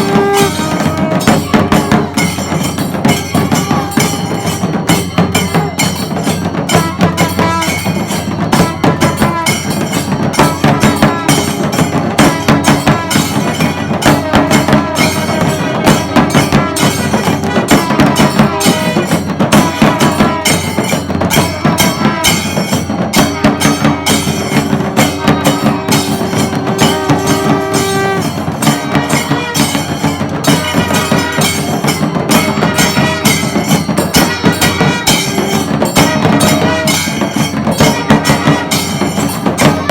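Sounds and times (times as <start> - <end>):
drums beating fast: 0.0 - 39.9
hand cymbals: 0.0 - 39.9.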